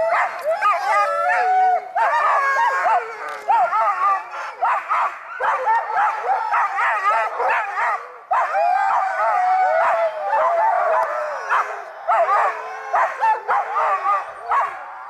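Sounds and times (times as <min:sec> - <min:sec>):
dog howling: 0:00.0 - 0:15.0
dogs barking and yipping: 0:00.0 - 0:15.0.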